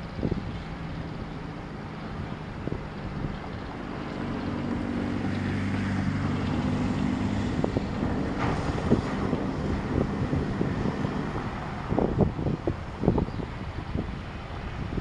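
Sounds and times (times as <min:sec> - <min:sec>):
diesel locomotive engine running: 0:00.0 - 0:14.9.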